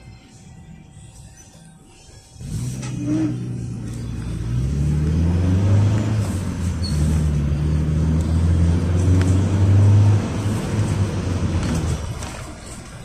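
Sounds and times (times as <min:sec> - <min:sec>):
engine accelerating: 0:02.2 - 0:13.0.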